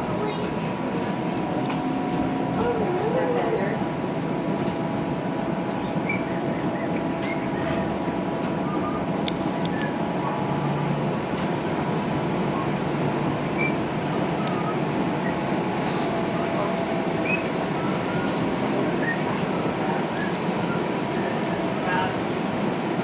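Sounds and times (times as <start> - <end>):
streetcar interior rumble: 0.0 - 23.0.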